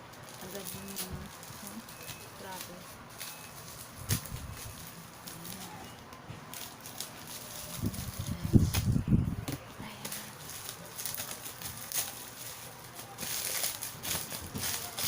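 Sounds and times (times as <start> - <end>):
plastic packaging rustling: 0.0 - 15.0.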